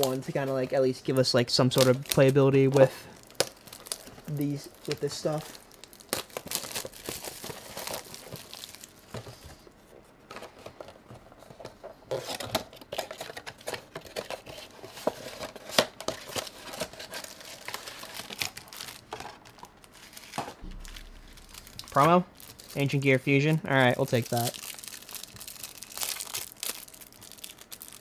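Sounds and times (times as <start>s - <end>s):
plastic wrapping crinkling and tearing: 0.0s - 9.4s, 12.1s - 28.0s.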